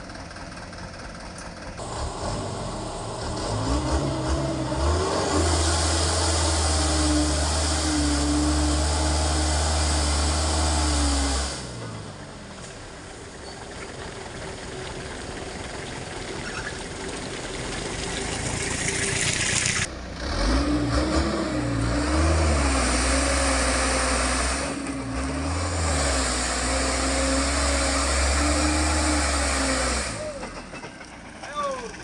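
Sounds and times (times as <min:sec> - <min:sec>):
truck diesel engine labouring: 0:00.0 - 0:32.0.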